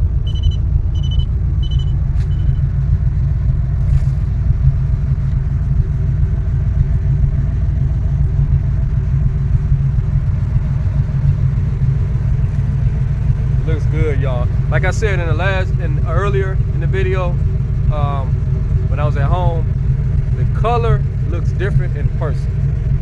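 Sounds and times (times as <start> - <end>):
car engine low rumble: 0.0 - 23.0
road noise: 0.0 - 23.0.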